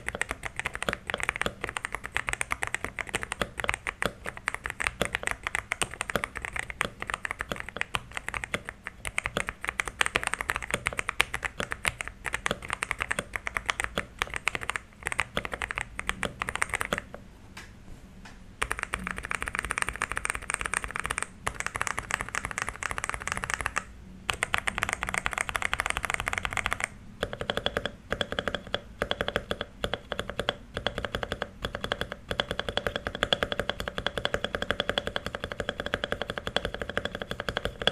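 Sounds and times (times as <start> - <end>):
mechanical keyboard typing: 0.0 - 17.2, 18.6 - 37.9.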